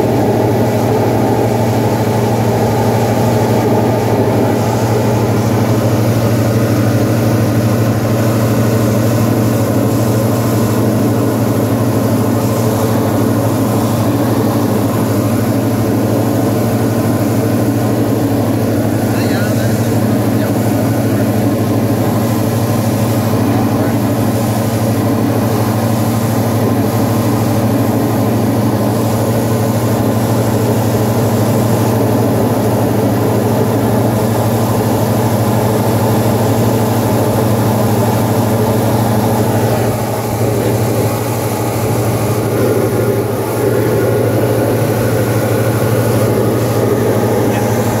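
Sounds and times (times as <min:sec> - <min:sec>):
light aircraft engine droning: 0:00.0 - 0:48.0.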